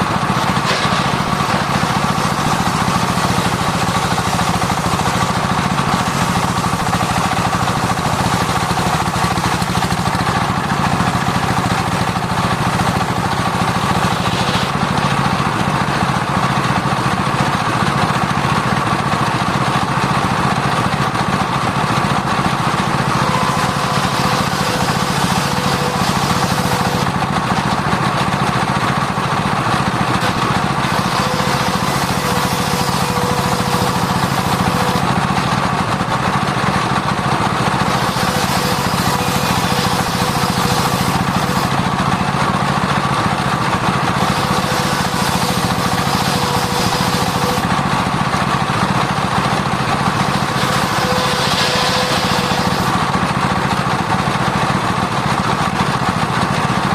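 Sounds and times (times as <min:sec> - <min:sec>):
circular sawmill drone: 0:00.0 - 0:56.5.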